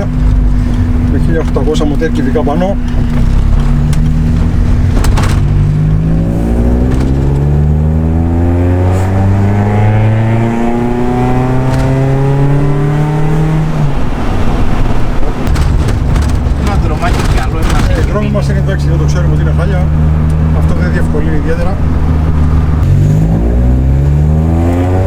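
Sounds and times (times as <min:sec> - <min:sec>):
car engine accelerating hard: 0:00.0 - 0:25.0
gear change: 0:00.0 - 0:25.0.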